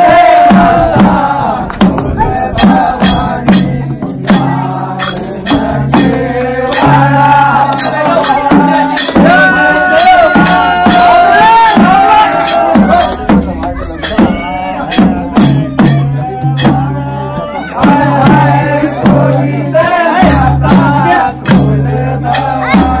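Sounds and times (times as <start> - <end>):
hand percussion: 0.0 - 23.0
voices singing: 0.0 - 23.0.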